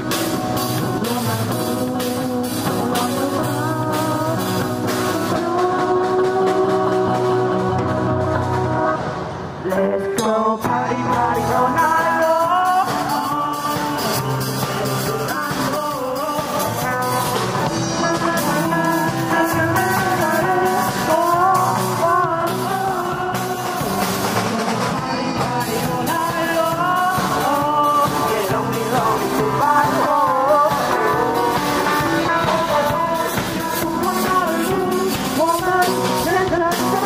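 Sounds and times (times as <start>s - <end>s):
drum kit: 0.0s - 37.0s
electric bass: 0.0s - 37.0s
electric guitar: 0.0s - 37.0s.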